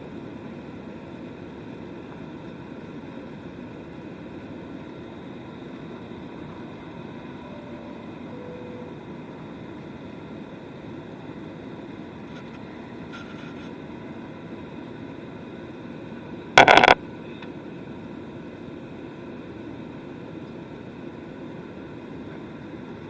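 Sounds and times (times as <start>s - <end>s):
airliner cabin engine noise: 0.0s - 23.0s.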